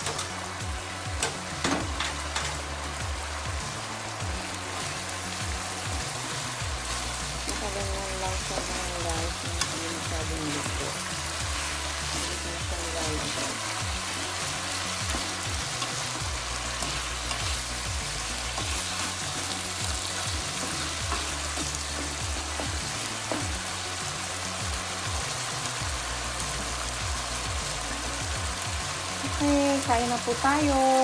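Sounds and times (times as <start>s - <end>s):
meat frying in a pan: 0.0s - 31.0s.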